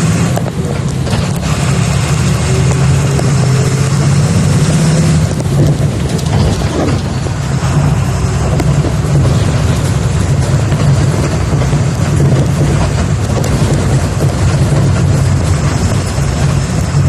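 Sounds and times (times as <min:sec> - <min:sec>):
bus engine low drone: 0:00.0 - 0:17.0.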